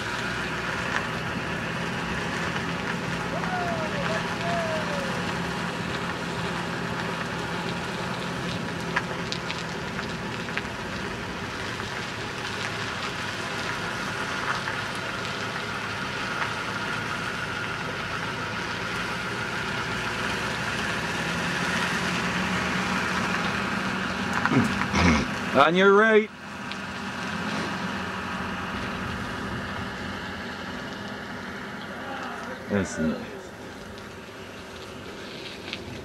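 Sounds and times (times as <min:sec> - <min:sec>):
low truck engine hum: 0:00.0 - 0:36.0
wheels rolling on pavement: 0:00.0 - 0:36.0.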